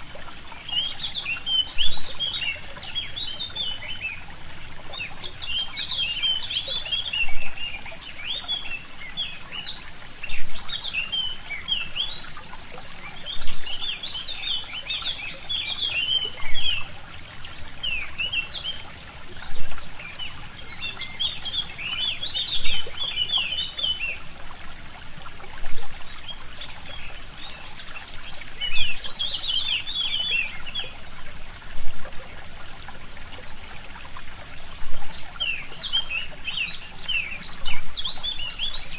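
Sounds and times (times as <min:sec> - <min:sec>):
songbirds chirping: 0:00.0 - 0:38.9
stream trickling: 0:00.0 - 0:38.9.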